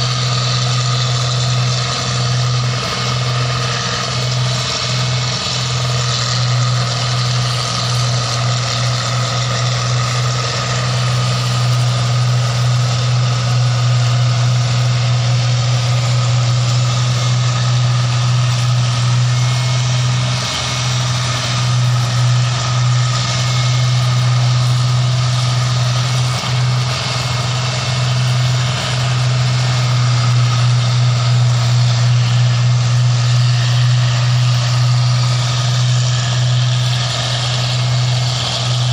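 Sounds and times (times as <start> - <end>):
machine engine running loudly: 0.0 - 38.9.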